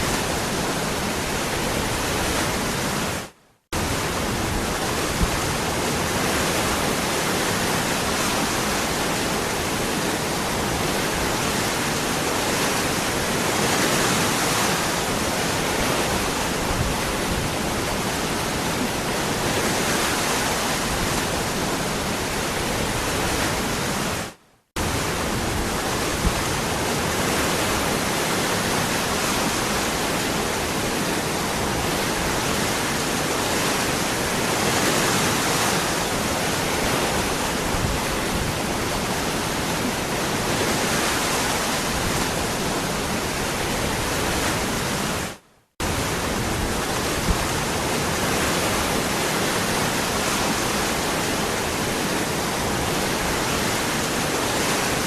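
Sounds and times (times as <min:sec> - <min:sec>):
waterfall rushing: 0:03.8 - 0:55.0.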